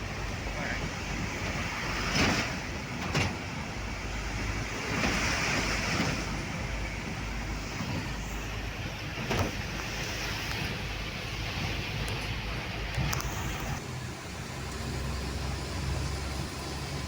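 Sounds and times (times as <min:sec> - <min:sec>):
road and rain noise inside car: 0:00.0 - 0:17.0.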